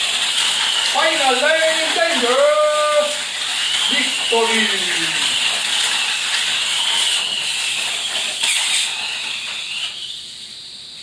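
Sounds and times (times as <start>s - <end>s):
wheels rushing along plastic track: 0.0s - 10.7s
small electric motors whining: 0.0s - 10.9s.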